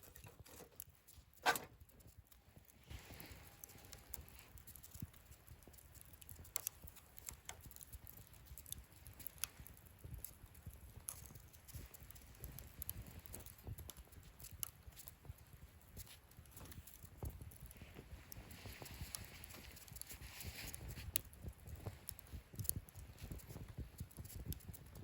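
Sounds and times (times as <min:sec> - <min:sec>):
fire pops: 0:00.0 - 0:25.0
low fire rumble: 0:00.0 - 0:25.0
wood fire crackling: 0:00.0 - 0:25.0.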